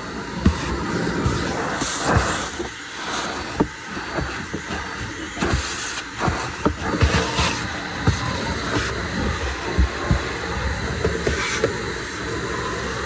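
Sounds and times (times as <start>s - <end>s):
shop vacuum running: 0.0s - 13.0s.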